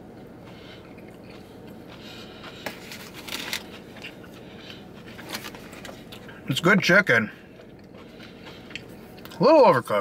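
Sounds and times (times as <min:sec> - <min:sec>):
person chewing crunchy food: 0:00.0 - 0:06.4, 0:07.4 - 0:09.4.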